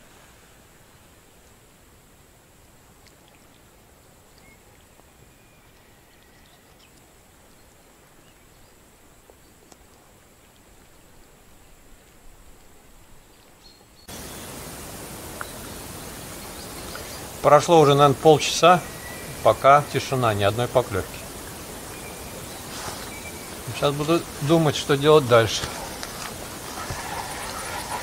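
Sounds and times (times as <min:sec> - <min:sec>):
low hiss of moving water: 0:00.0 - 0:28.0.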